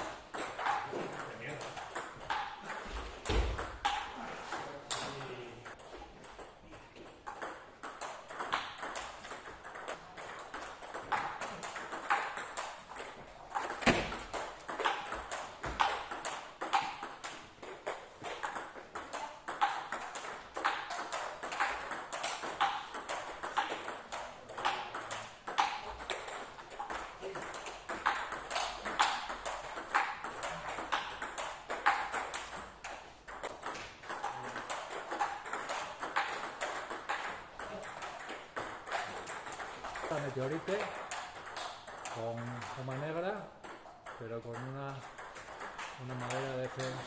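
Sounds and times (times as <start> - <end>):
table tennis ball clicks: 4.9 - 47.0.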